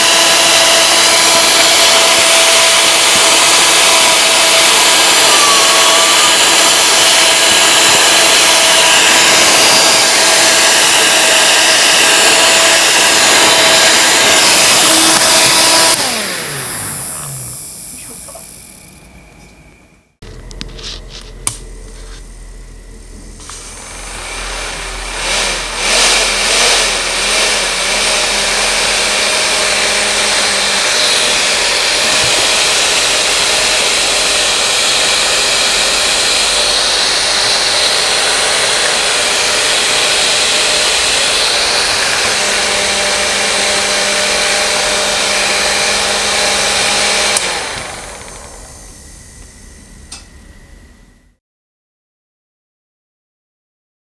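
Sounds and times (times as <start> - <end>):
electric fan rushing air: 0.0 - 51.3.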